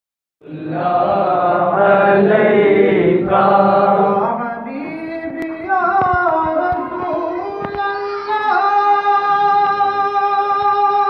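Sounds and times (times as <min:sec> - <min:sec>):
man chanting through microphone: 0:00.4 - 0:11.0.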